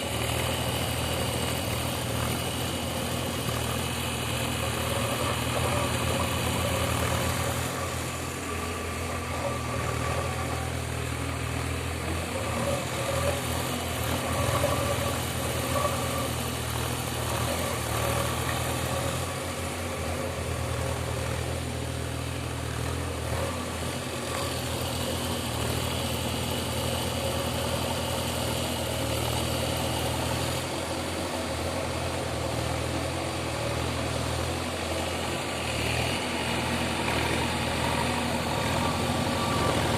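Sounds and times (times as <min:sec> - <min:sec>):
diesel engine running at low revs: 0:00.0 - 0:39.9.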